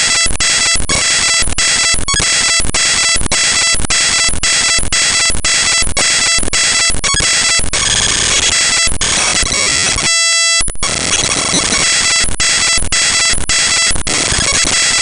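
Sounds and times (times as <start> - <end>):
buzzy beep: 0.0 - 15.0
harsh digital noise: 0.0 - 15.0.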